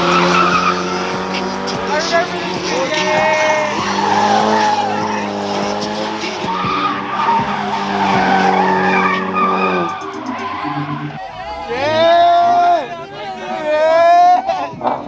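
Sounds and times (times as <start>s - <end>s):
car engine revving high: 0.0s - 13.6s
tires skidding and squealing: 0.0s - 15.0s.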